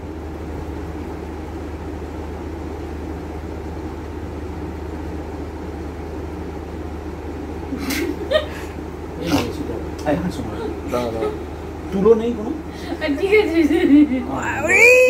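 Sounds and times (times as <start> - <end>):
steady background hum and hiss: 0.0 - 15.0.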